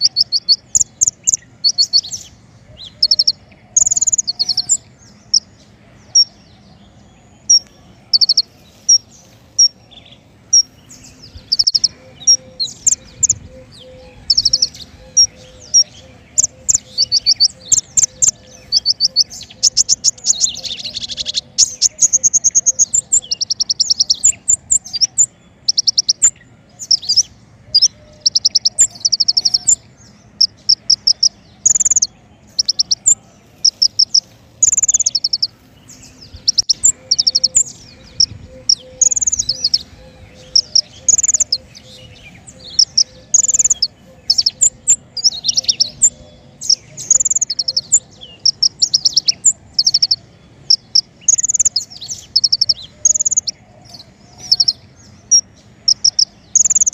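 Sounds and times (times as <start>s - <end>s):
songbird trills and chirps: 0.0s - 56.9s.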